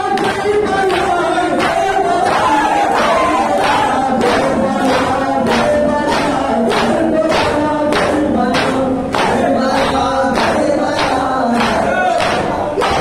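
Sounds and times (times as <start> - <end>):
crowd chanting in chorus: 0.0 - 13.0.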